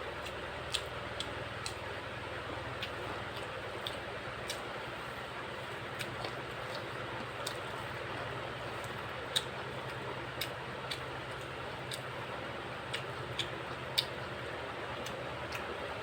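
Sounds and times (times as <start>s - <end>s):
chewing clicks: 0.2s - 1.9s, 2.7s - 15.8s.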